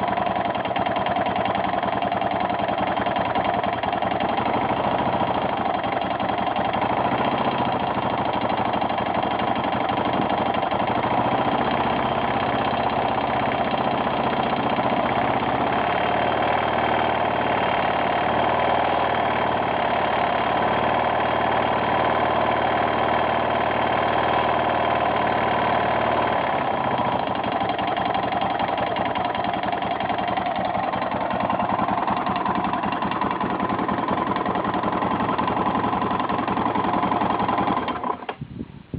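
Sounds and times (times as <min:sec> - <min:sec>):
engine running with knocking: 0:00.0 - 0:38.4.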